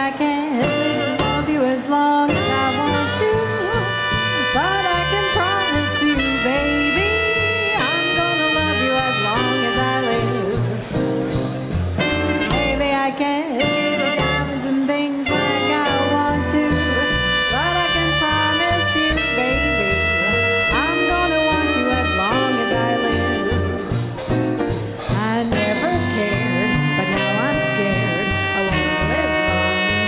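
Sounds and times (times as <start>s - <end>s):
swing band playing: 0.0s - 30.0s
saxophone: 0.4s - 11.0s, 11.9s - 24.2s, 24.8s - 30.0s
horn melody: 0.5s - 30.0s
trumpet: 0.5s - 30.0s
walking bass: 0.6s - 30.0s.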